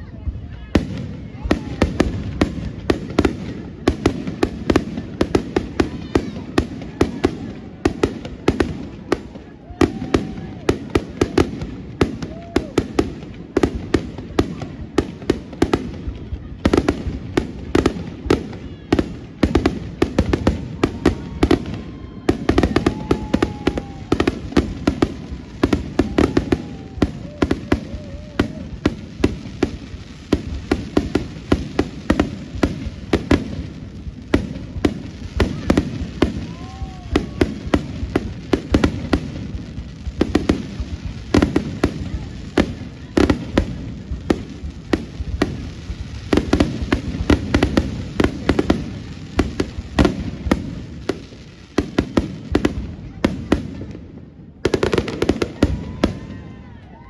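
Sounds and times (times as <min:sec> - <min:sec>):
fireworks bangs and pops: 0:00.0 - 0:57.0
fireworks whistling: 0:00.5 - 0:57.0.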